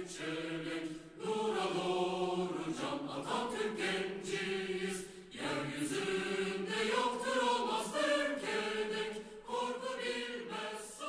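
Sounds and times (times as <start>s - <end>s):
choir singing long chords: 0.0s - 11.0s.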